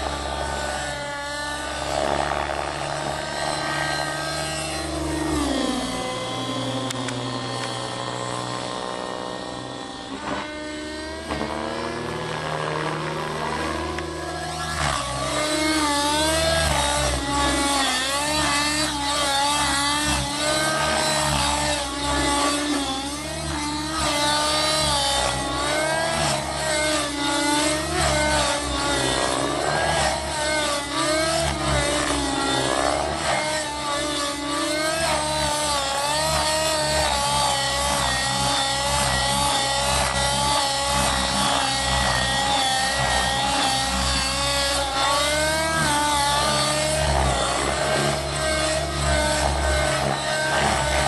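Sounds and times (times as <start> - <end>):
model helicopter engine and rotor: 0.0 - 51.0.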